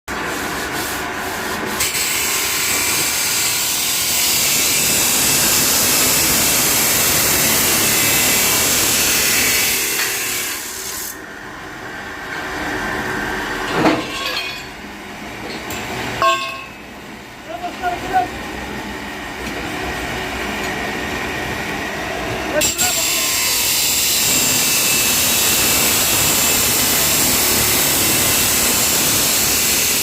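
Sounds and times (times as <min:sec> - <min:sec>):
workshop machine running harshly: 0:00.1 - 0:30.0.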